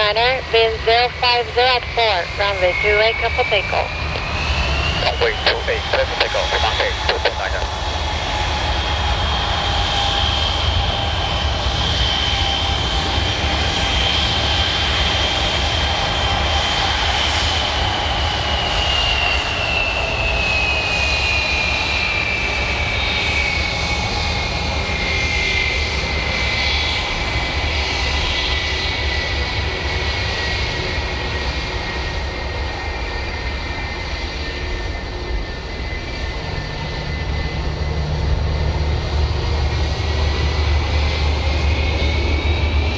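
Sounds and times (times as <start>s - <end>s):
jet engines at takeoff thrust: 0.0s - 42.9s.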